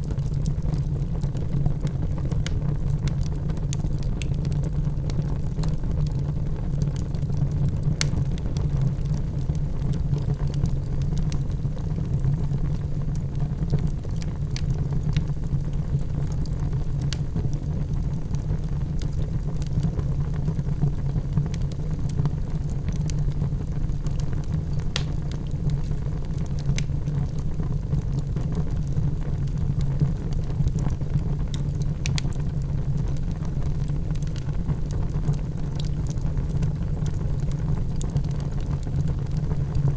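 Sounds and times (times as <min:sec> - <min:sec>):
wood fire rumbling and crackling: 0:00.0 - 0:39.9.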